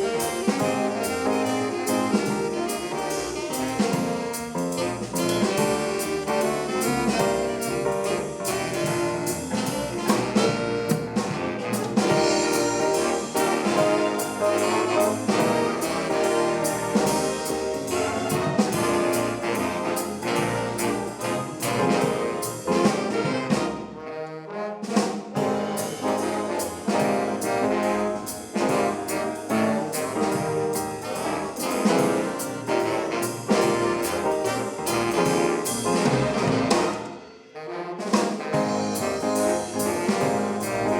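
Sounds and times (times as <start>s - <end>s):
drum kit: 0.0s - 24.1s, 24.8s - 40.9s
big band jazz: 0.0s - 40.9s
trombones and trumpets: 0.0s - 40.9s.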